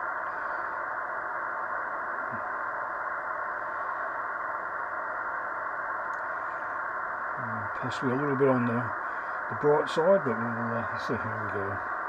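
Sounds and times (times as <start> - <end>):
muffled static hiss: 0.0 - 12.0.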